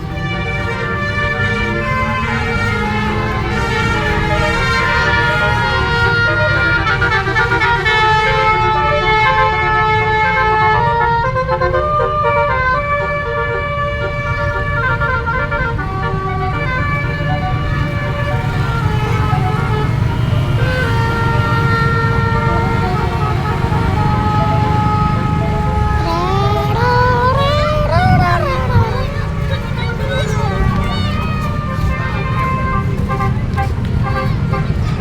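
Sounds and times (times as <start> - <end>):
engine rumble: 0.0 - 9.6, 10.5 - 35.0
melodic air horns playing a tune: 0.0 - 35.0.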